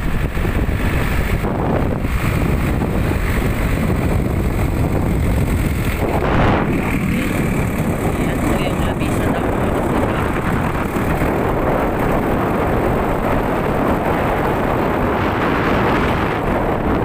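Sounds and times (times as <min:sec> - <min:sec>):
truck engine and road noise: 0:00.0 - 0:17.0
wind buffeting microphone: 0:00.0 - 0:17.0.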